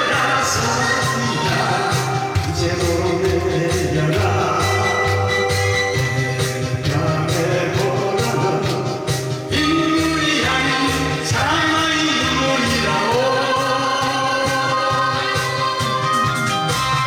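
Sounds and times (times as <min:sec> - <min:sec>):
pop song with backing track: 0:00.0 - 0:17.0.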